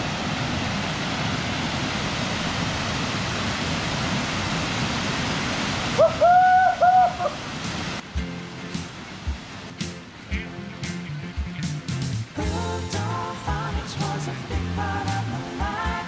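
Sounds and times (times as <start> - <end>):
waterfalls pouring into pool: 0.0 - 10.4, 12.3 - 16.0.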